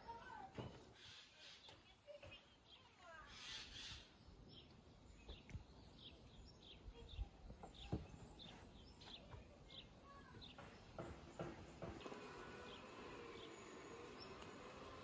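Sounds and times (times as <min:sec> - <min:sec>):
bird chirping: 0:01.0 - 0:15.0.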